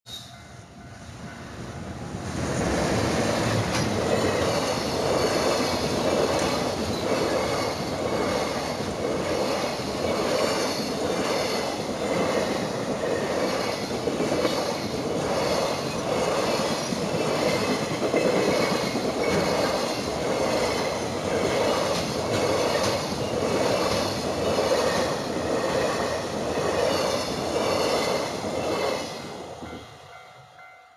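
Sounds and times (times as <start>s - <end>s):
freight train passing: 0.1s - 30.9s
wheels clattering over rails: 2.5s - 29.0s.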